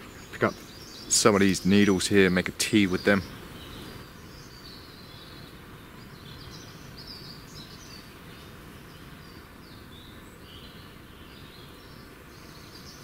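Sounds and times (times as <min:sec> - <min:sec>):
low background noise: 0:00.0 - 0:13.0
small birds chirping: 0:00.0 - 0:13.0.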